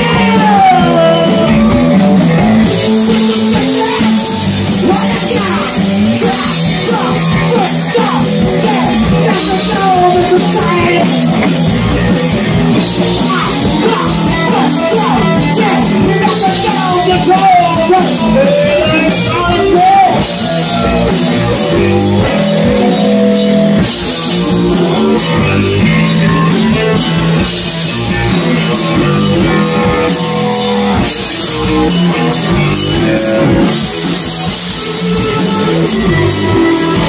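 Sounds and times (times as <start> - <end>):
drum kit beat: 0.0 - 37.0
electric guitars: 0.0 - 37.0.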